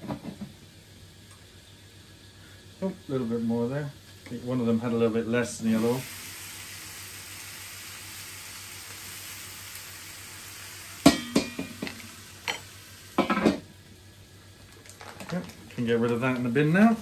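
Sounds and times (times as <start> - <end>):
meat sizzling on electric grill: 0.0 - 17.0.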